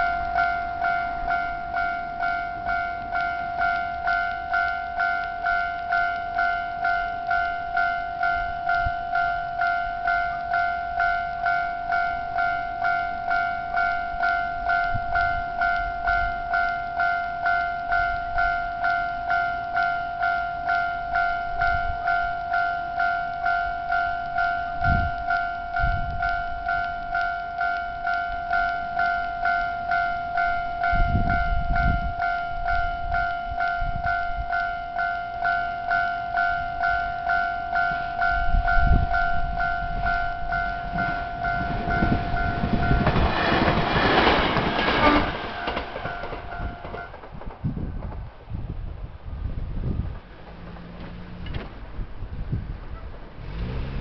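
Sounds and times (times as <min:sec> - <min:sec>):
level crossing alarm ringing: 0:00.0 - 0:43.8, 0:44.4 - 0:47.1
train passing with wheel noise: 0:00.0 - 0:54.0.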